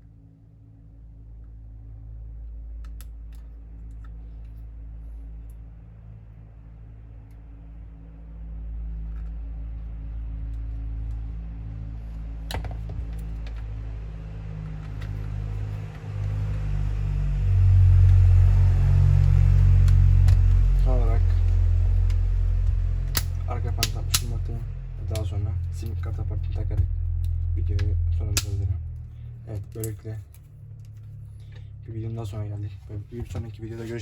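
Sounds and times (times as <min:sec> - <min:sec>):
low steady rumble: 0:00.0 - 0:34.0.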